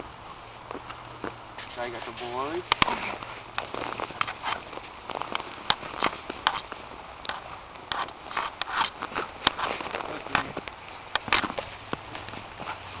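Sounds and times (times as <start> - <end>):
snow crunching underfoot: 0.7 - 13.0.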